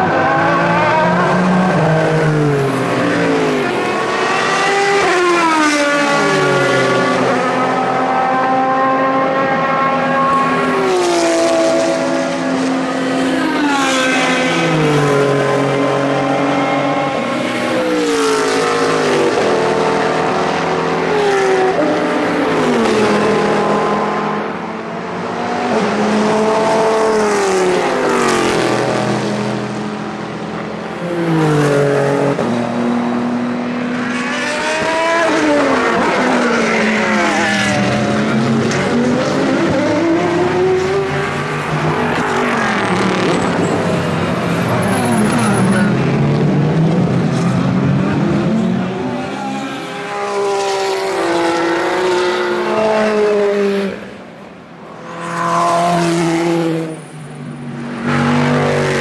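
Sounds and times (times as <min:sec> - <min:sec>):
race cars passing close by: 0:00.0 - 0:59.0.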